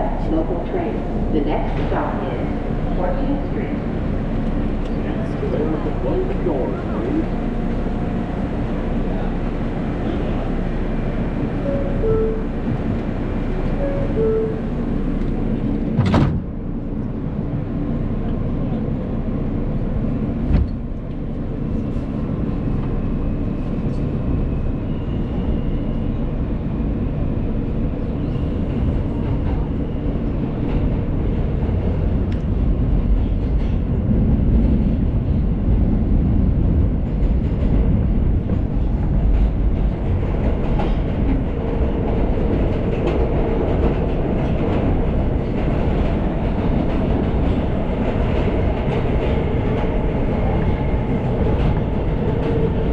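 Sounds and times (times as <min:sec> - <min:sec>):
subway train wheels rumbling: 0:00.0 - 0:52.9.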